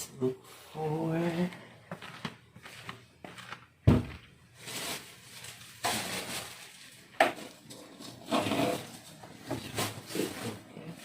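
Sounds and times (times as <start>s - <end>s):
objects scraping and rustling: 0.4s - 11.0s.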